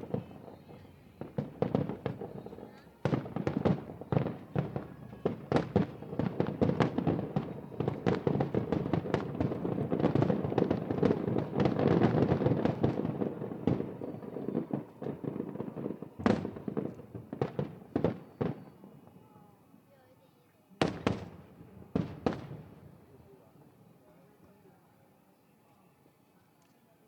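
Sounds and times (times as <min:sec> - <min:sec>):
fireworks bangs and crackles: 0:00.0 - 0:19.4, 0:20.8 - 0:23.7.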